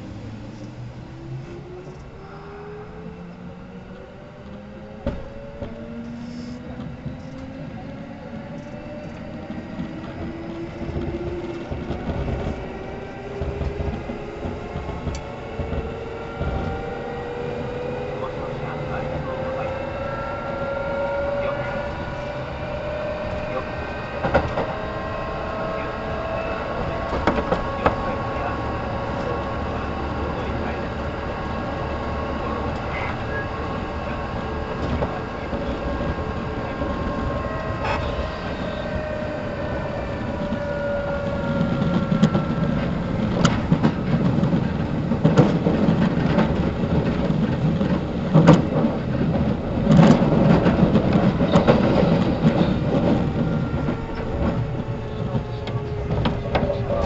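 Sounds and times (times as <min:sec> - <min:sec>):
electric train rumbling: 0:00.0 - 0:57.0
train hum: 0:00.0 - 0:57.0
wheels clacking on track: 0:03.0 - 0:57.0.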